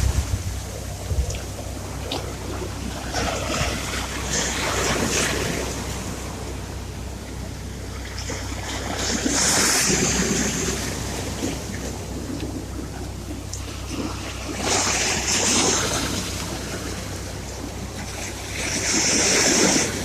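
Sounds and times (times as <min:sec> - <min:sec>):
sea surf washing ashore: 0:00.0 - 0:20.0
steady low hum: 0:00.0 - 0:20.0.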